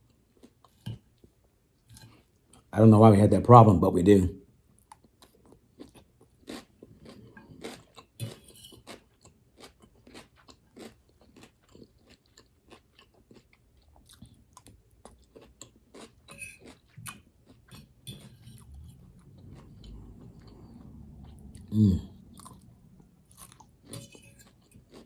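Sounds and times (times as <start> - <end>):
person chewing crunchy vegetables: 0.1 - 0.8, 4.8 - 25.0.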